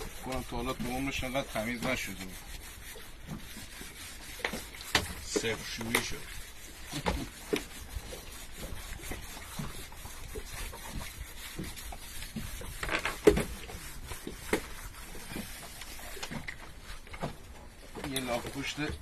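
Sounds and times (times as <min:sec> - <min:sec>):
gloved hands rubbing turtle shell: 0:00.0 - 0:16.3
wind and sea hiss: 0:00.0 - 0:16.3.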